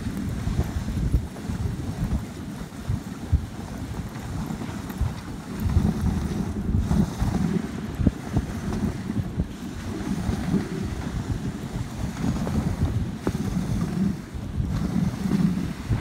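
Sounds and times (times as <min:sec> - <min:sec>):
sled runners sliding on snow: 0:00.0 - 0:16.0
wind buffeting microphone: 0:00.0 - 0:16.0.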